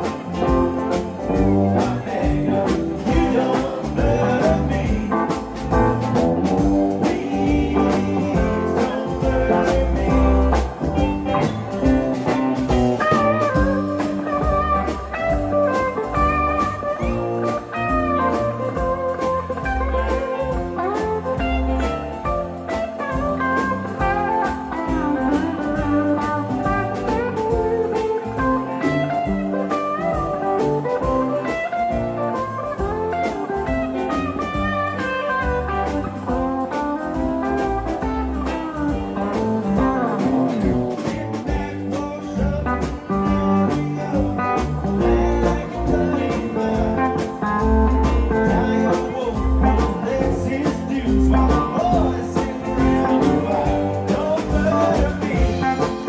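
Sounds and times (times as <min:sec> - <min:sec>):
live country rock band playing: 0:00.0 - 0:56.0
steady drum beat: 0:00.0 - 0:56.0.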